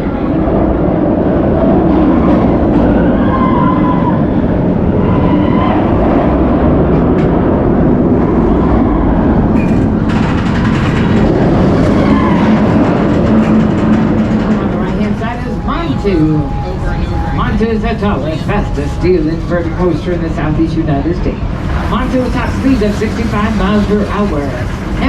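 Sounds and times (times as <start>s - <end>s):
roller coaster rumbling on track: 0.0s - 25.0s.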